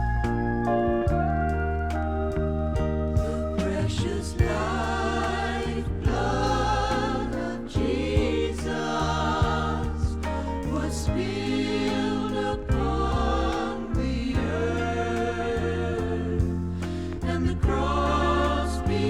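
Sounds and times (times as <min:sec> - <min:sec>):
band accompaniment: 0:00.0 - 0:19.0
gospel choir singing: 0:00.0 - 0:19.0.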